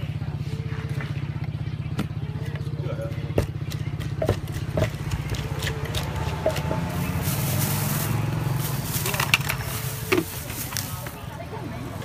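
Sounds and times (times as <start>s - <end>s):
small engine running: 0.2s - 11.2s.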